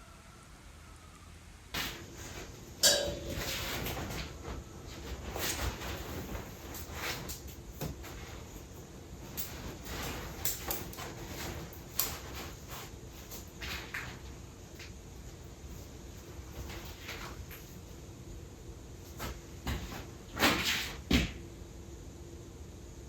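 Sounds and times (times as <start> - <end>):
rustling with light clicks and knocks: 1.8 - 21.5.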